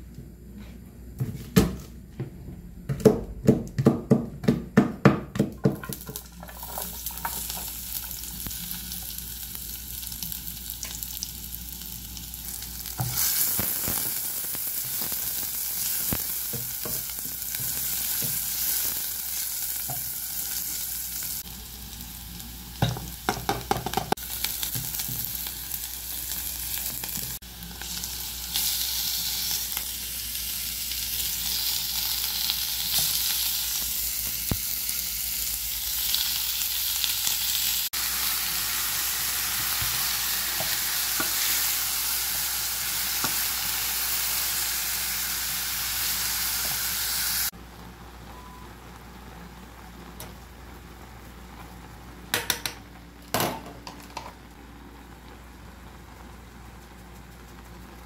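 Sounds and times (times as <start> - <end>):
food sizzling in oil: 5.7 - 52.3.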